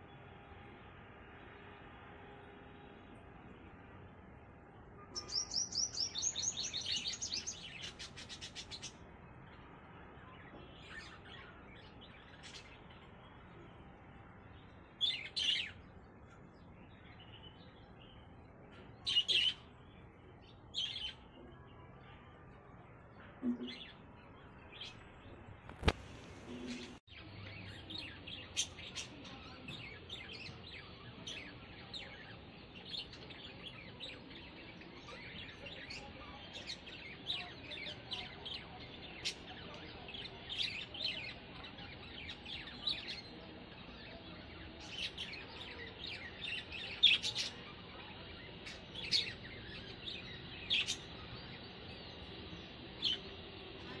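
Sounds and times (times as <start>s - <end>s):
small birds chirping: 3.6s - 54.0s.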